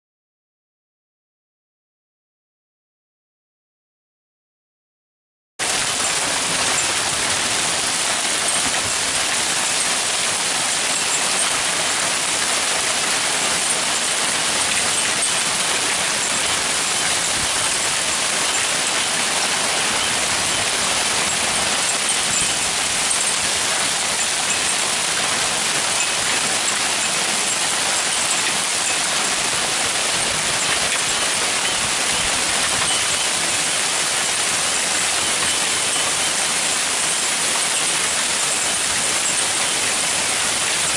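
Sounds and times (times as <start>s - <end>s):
hail and rain hissing: 5.6s - 40.9s.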